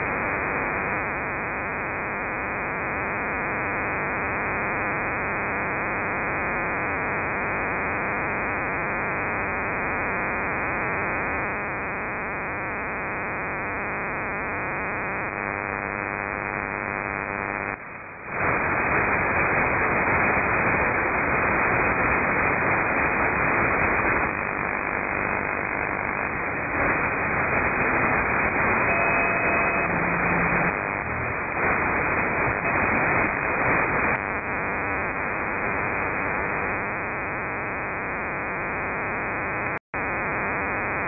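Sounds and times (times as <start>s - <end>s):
radio hiss and static: 0.0s - 41.0s.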